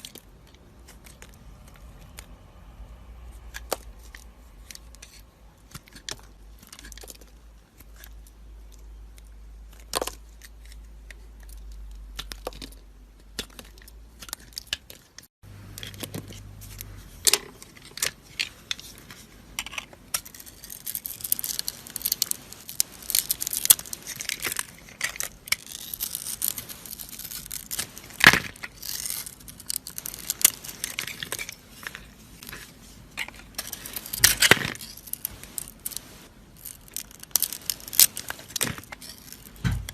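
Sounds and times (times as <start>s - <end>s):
knife carving dry soap: 3.4s - 35.9s.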